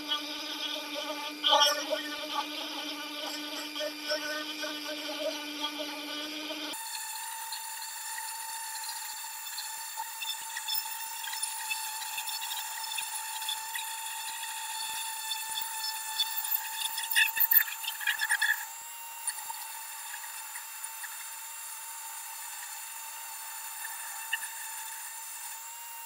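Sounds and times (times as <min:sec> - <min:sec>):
rotary carving tool grinding wood: 0:00.0 - 0:26.0.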